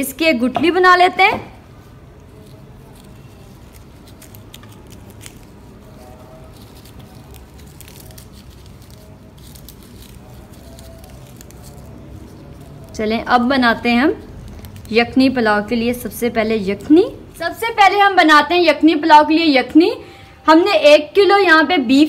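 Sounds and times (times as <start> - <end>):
plastic gloves crinkling: 0.0 - 19.7
low room noise: 0.0 - 22.0.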